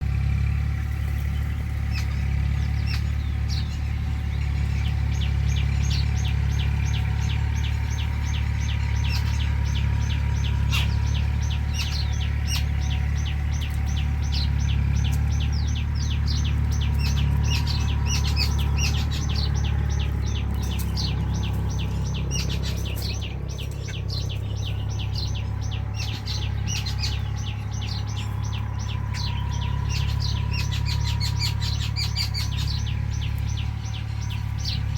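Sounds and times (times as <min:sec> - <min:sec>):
birds chirping: 0:00.0 - 0:34.9
steady low hum: 0:00.8 - 0:34.9.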